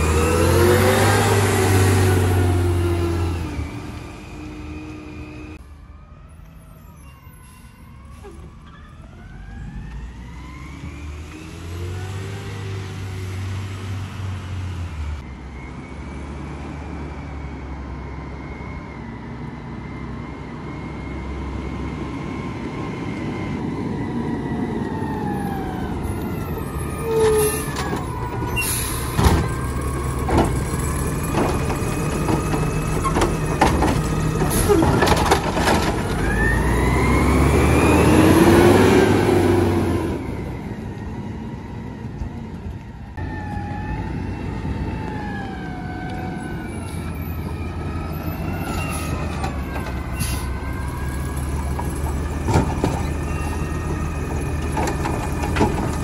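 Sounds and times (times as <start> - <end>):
garbage truck engine whine: 0.0 - 56.0.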